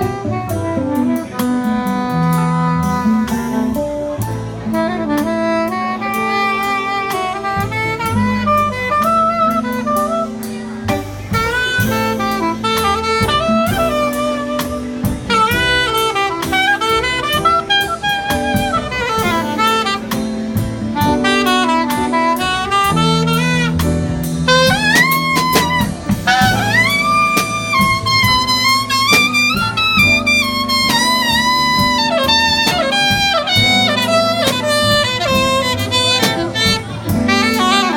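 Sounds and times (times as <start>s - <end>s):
drum kit: 0.0s - 37.9s
soprano saxophone jazz melody: 0.0s - 37.9s.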